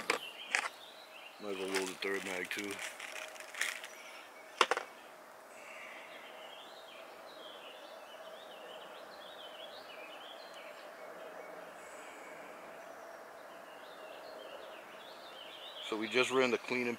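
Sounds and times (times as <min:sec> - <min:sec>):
birds chirping: 0:00.0 - 0:16.9
faint constant hum: 0:00.0 - 0:16.9.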